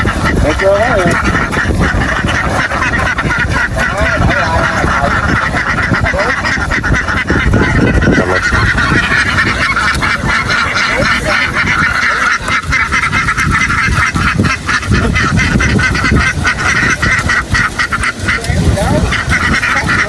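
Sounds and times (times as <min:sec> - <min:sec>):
flock of ducks quacking: 0:00.0 - 0:20.0.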